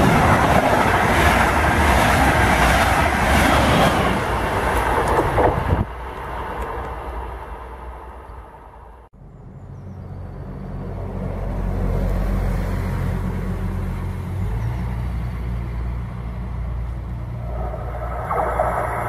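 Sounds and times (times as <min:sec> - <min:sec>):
train rumbling: 0:00.0 - 0:09.1, 0:10.2 - 0:19.0.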